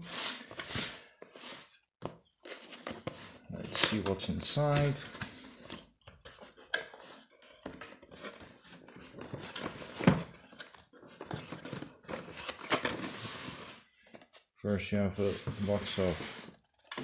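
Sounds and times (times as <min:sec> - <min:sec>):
cardboard rustling and scraping: 0:00.0 - 0:14.5, 0:15.1 - 0:17.0.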